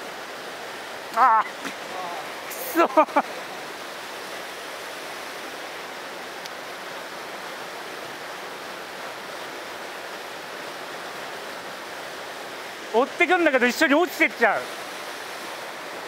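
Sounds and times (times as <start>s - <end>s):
stream water rushing over waterfall: 0.0s - 16.0s.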